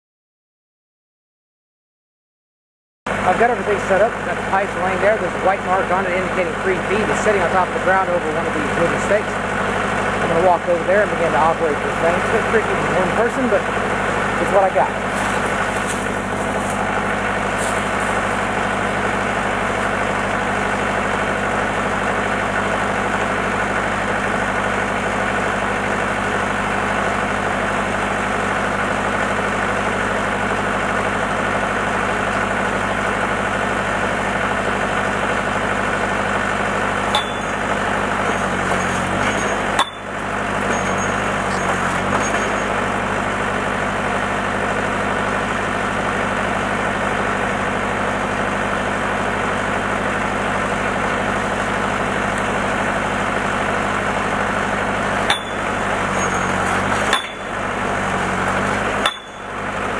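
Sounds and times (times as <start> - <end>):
tractor engine running: 3.1 - 59.9.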